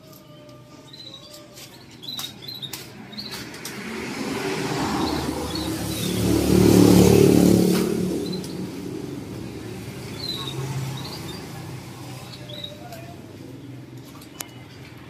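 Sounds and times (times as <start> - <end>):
small birds chirping: 0.1 - 7.1, 7.8 - 14.8
vehicle passing: 2.7 - 15.0.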